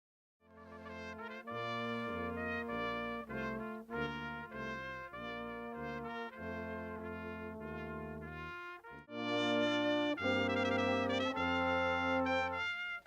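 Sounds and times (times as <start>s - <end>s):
brass ensemble playing chords: 0.5s - 13.0s.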